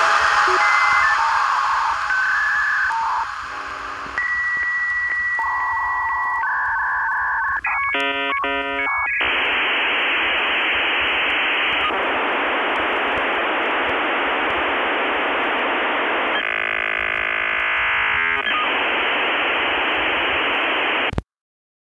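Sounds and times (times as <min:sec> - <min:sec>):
radio static hiss: 0:00.0 - 0:21.2.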